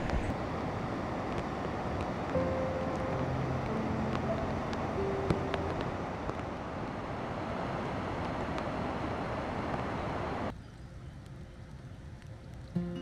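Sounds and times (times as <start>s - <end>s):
running water rushing: 0.0s - 10.5s.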